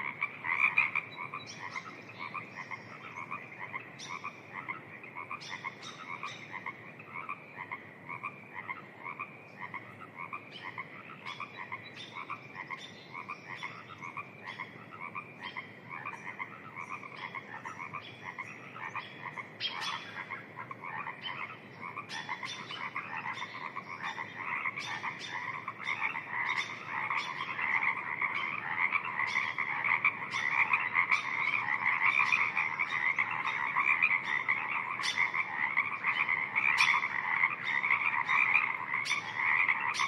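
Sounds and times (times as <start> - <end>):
chorus of frogs croaking: 0.0 - 40.0
faint steady hiss: 0.0 - 40.0.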